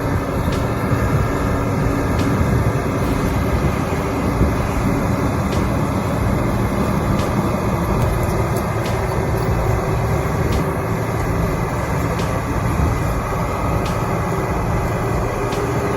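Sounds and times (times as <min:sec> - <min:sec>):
bulldozer diesel engine running: 0:00.0 - 0:15.9.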